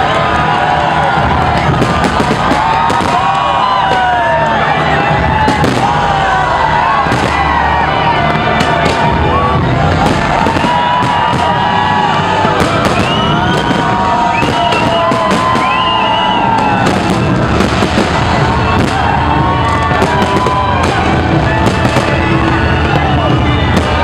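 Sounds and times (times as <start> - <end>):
fireworks banging and crackling: 0.8 - 24.0
fireworks whistling: 1.5 - 4.2, 5.3 - 9.3, 9.9 - 24.0.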